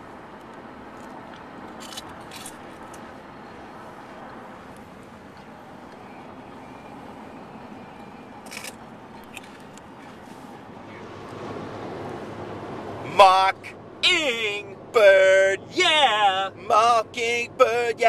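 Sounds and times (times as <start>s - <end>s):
car cabin road and engine noise: 0.0s - 18.0s.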